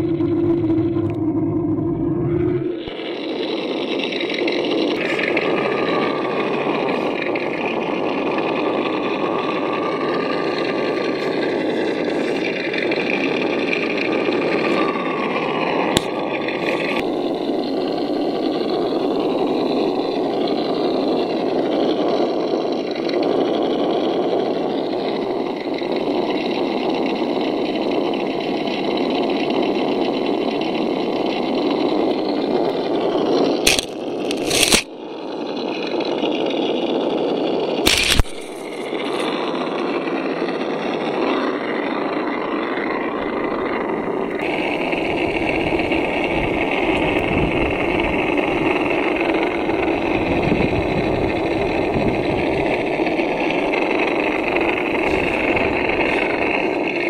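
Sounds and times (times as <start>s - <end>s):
toy truck motor whining: 0.0s - 57.0s.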